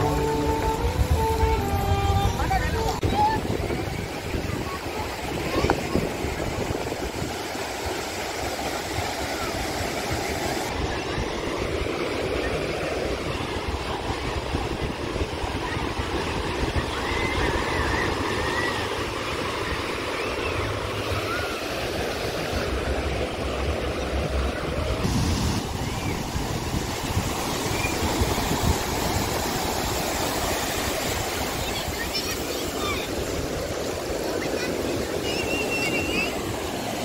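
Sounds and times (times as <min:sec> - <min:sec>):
wind rumble on microphone: 0:00.0 - 0:08.0, 0:08.8 - 0:32.2
waves breaking on sand: 0:00.0 - 0:37.0.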